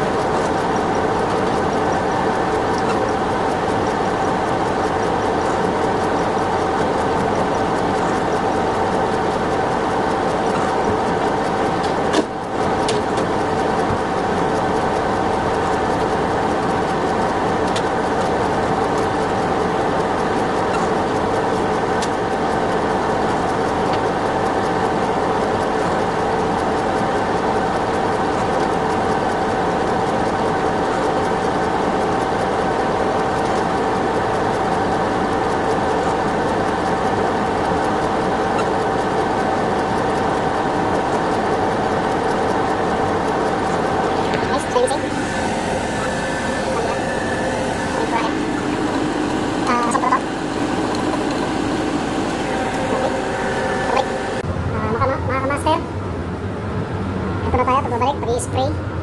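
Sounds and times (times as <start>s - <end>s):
machine droning: 0.0s - 59.0s.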